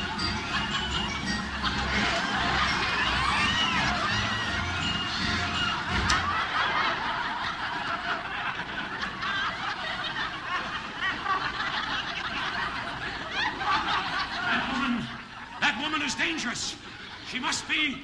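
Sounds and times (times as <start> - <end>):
audience laughing: 0.0 - 18.0.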